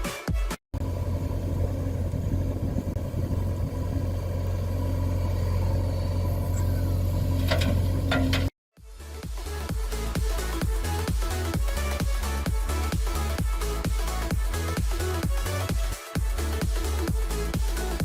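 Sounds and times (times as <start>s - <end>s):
engine idling: 0.8s - 8.5s, 9.4s - 18.0s.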